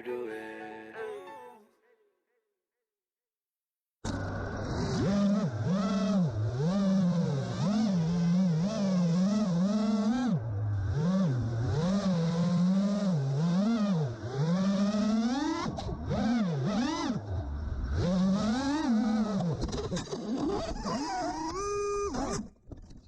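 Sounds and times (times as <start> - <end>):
drone motors whining: 4.0 - 23.0.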